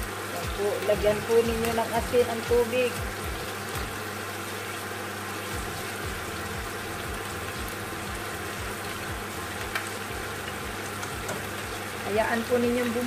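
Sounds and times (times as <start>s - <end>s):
boiling water bubbling hiss: 0.0s - 13.0s.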